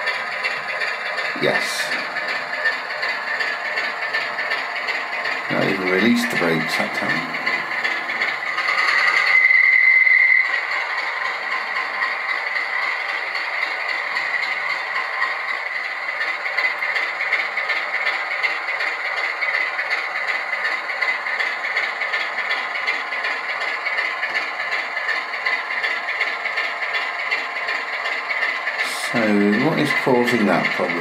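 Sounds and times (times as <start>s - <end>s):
diesel engine sound from speaker: 0.0s - 31.0s
model train wheels rattling: 0.0s - 31.0s.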